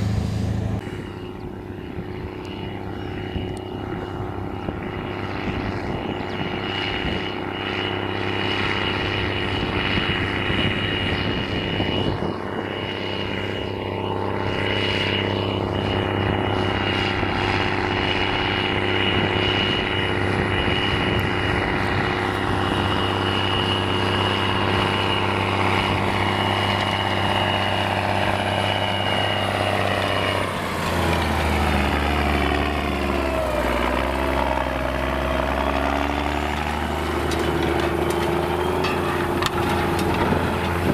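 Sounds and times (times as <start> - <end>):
high whine: 0.0 - 40.9
tractor diesel engine running: 0.0 - 40.9
tractor passing by: 0.0 - 40.9.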